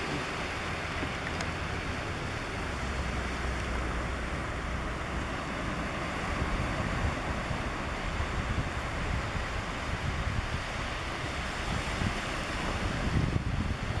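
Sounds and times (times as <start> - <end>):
sea water washing over rocks: 0.0 - 14.0
wind on microphone: 0.0 - 14.0.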